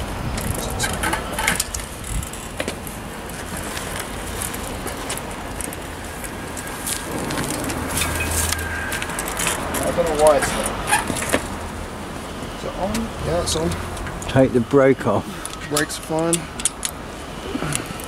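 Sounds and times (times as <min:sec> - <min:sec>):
steady low rumble: 0:00.0 - 0:17.3.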